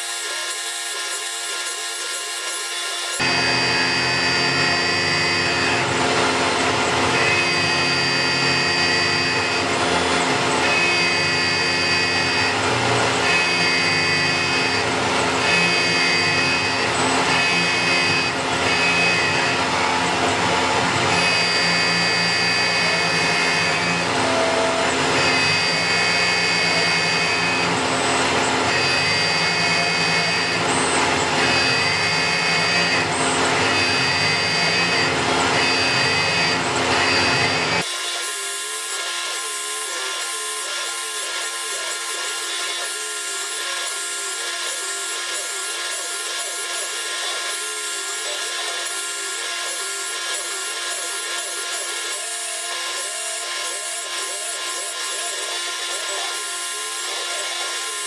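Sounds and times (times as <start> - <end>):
milling machine cutting metal: 0.0 - 58.0.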